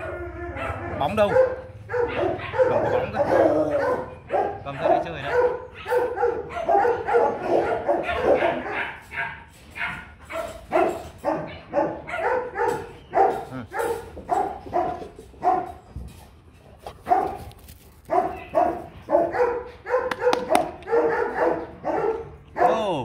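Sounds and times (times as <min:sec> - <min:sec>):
dog barking: 0:00.0 - 0:15.8, 0:17.1 - 0:17.4, 0:18.1 - 0:22.9.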